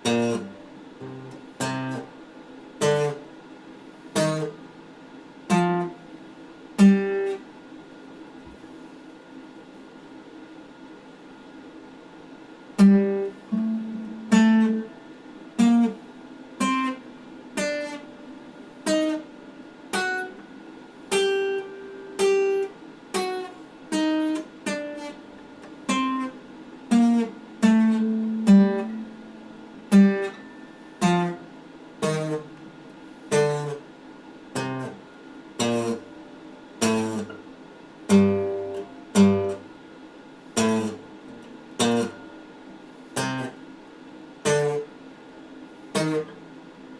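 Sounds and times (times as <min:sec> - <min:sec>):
acoustic guitar played slowly: 0:00.0 - 0:07.5, 0:12.7 - 0:33.9, 0:34.5 - 0:39.8, 0:40.4 - 0:43.7, 0:44.4 - 0:45.0, 0:45.6 - 0:46.9.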